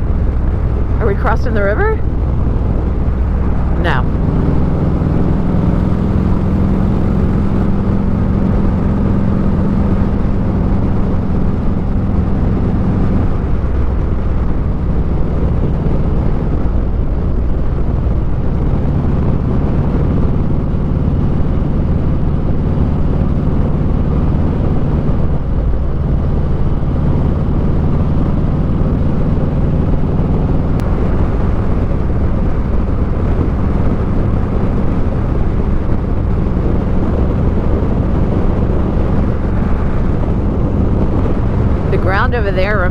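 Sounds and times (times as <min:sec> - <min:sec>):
motorcycle engine running: 0:00.0 - 0:42.9
rushing wind noise: 0:00.0 - 0:42.9.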